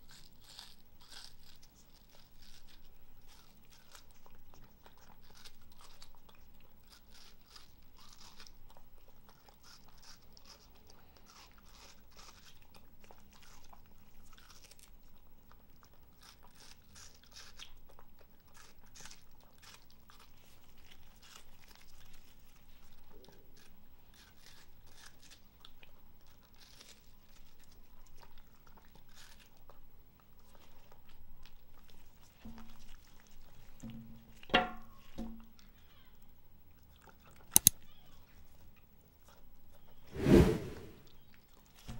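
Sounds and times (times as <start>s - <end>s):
dog chewing watermelon: 0.0s - 39.9s.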